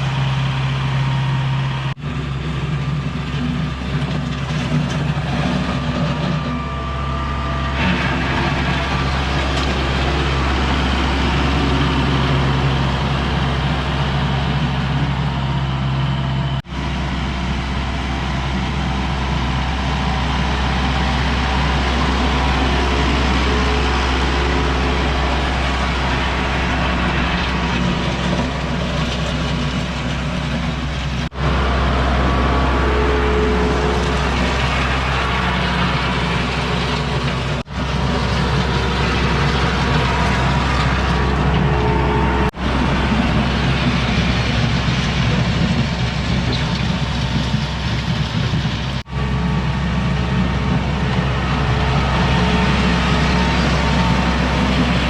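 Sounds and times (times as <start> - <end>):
heavy equipment engine running: 0.0 - 55.0.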